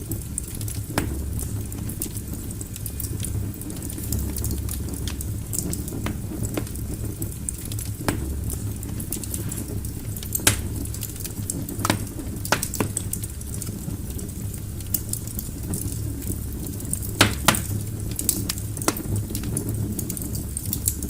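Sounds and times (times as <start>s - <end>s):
flames rumbling: 0.0s - 21.0s
logs crackling and popping: 0.0s - 21.0s.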